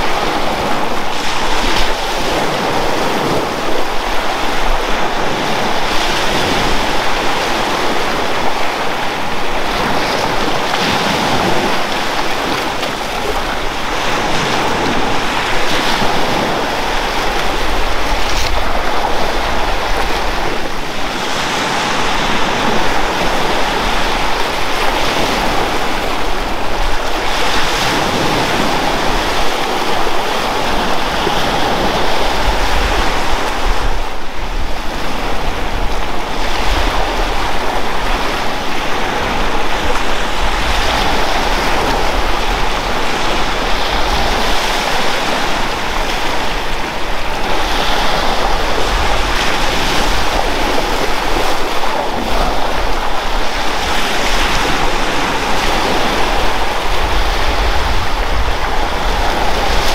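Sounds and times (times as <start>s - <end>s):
surf washing onto beach: 0.0s - 59.9s
wind rumbling on microphone: 0.0s - 59.9s.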